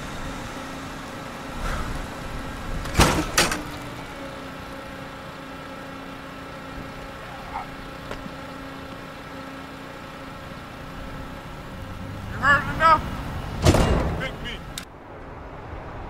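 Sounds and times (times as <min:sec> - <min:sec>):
machine motor humming: 0:00.0 - 0:13.8.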